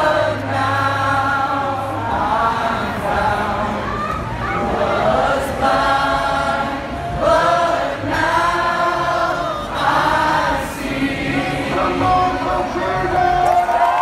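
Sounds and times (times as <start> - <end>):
large crowd singing: 0.0 - 14.0.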